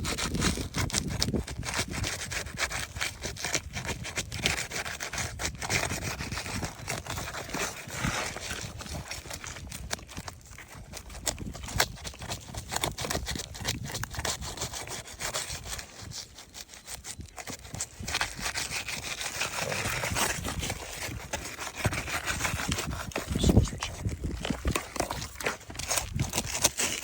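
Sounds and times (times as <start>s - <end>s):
metal pry bar scraping shingles: 2.8s - 27.0s.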